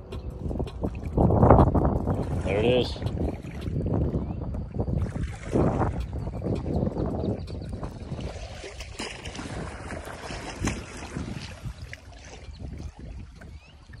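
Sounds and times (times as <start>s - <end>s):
water lapping on shore: 0.0s - 14.0s
wind rumbling on microphone: 0.0s - 14.0s.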